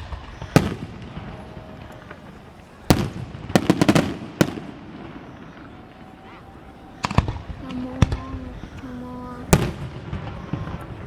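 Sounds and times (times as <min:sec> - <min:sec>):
fireworks bangs: 0:00.0 - 0:11.0
fireworks crackling pops: 0:00.0 - 0:11.0.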